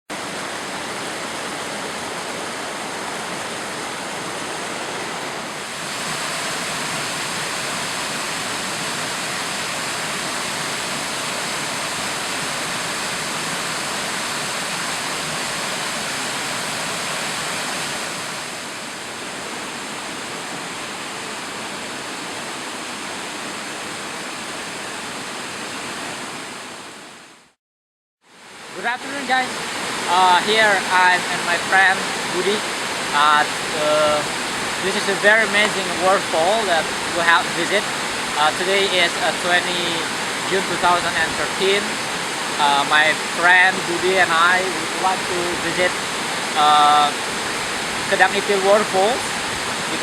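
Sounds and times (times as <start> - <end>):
waterfall rushing: 0.1 - 27.5, 28.3 - 50.0.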